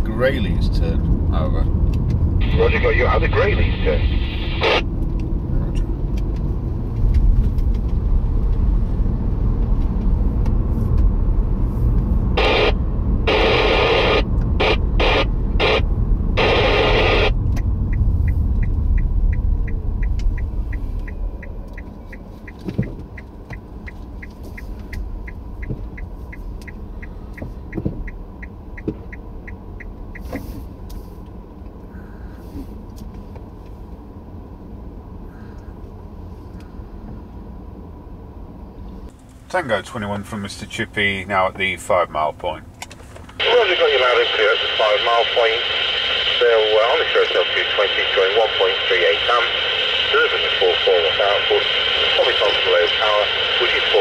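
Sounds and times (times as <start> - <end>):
car road rumble: 0.0 - 54.0.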